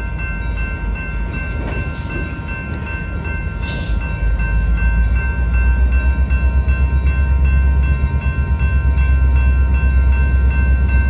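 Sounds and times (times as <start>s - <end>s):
crossing warning bell ringing: 0.0s - 11.0s.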